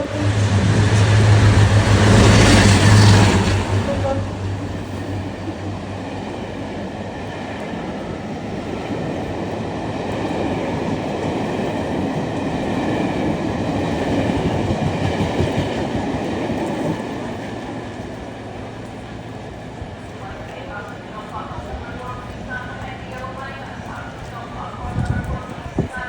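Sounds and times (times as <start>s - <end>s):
diesel locomotive engine: 0.0s - 26.0s
train wheel noise: 0.0s - 26.0s.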